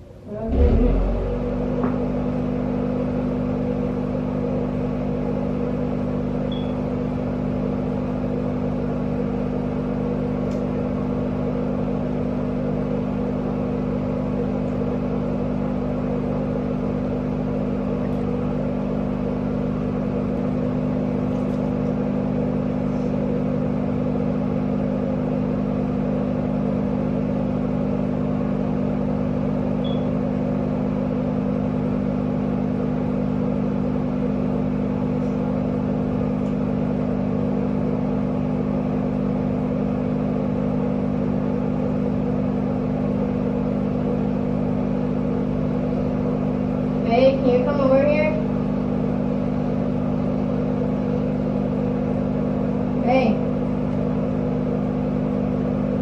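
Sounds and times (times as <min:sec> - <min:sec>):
exhaust fan motor hum: 0:00.0 - 0:56.0.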